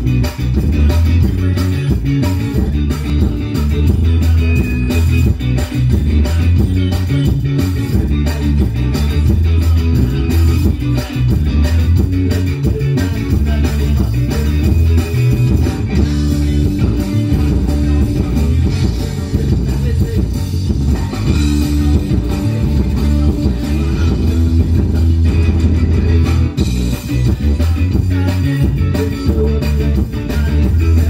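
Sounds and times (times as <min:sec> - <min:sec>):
bass guitar: 0:00.0 - 0:31.0
drum kit: 0:00.0 - 0:31.0
electric guitar: 0:00.0 - 0:31.0.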